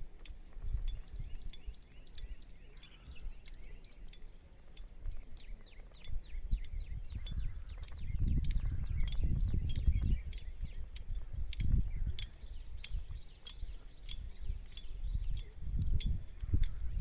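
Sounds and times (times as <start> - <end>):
faint chirps and ticks: 0.0 - 17.0.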